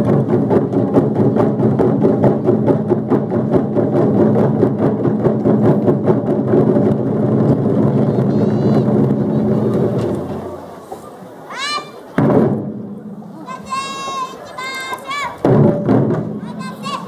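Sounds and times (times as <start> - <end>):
drum ensemble drumming: 0.0 - 10.9, 12.1 - 17.0.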